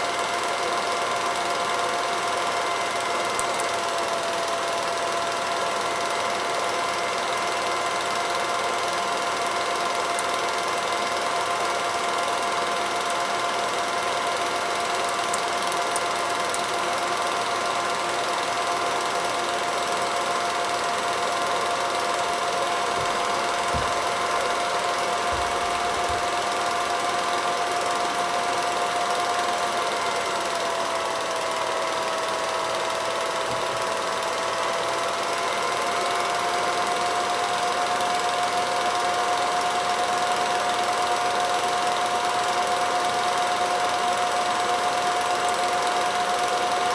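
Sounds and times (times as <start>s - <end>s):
film projector whirring: 0.0s - 46.9s.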